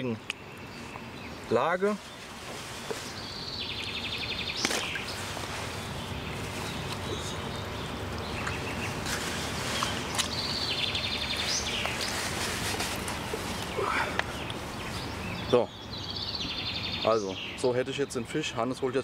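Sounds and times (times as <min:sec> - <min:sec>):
songbird singing trill: 0:00.0 - 0:12.3, 0:13.2 - 0:19.0
outdoor background hiss: 0:00.0 - 0:19.0.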